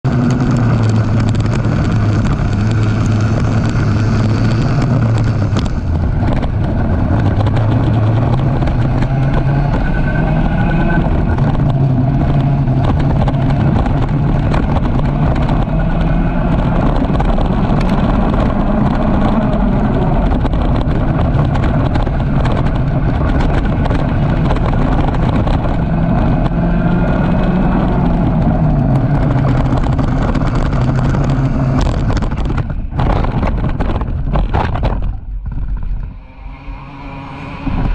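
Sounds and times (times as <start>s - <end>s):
kart engine racing: 0.0s - 37.9s
other kart engines: 0.0s - 37.9s.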